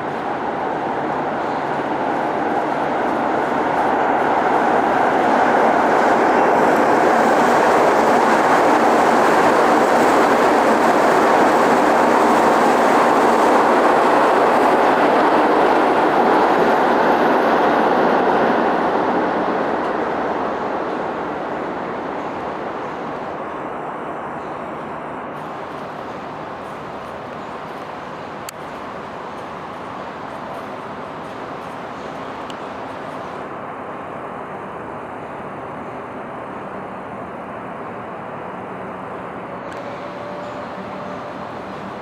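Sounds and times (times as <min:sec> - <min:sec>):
train passing: 0:00.0 - 0:42.0.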